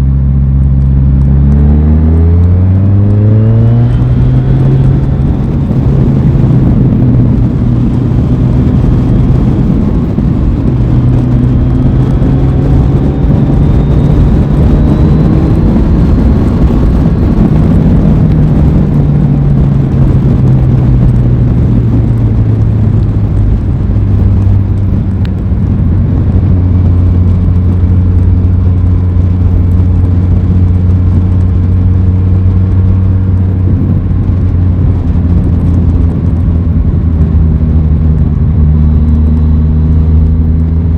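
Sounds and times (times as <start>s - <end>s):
motorcycle engine running: 0.0s - 40.9s
steady rushing noise: 0.0s - 40.9s.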